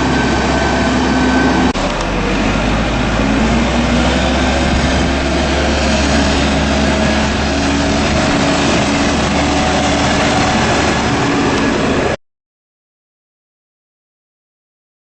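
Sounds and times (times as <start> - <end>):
diesel engine running: 0.0 - 12.2.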